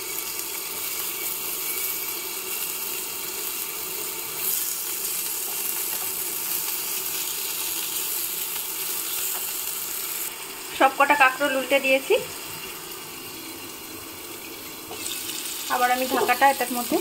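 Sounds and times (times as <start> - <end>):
vegetable slices sizzling in oil: 0.0 - 17.0.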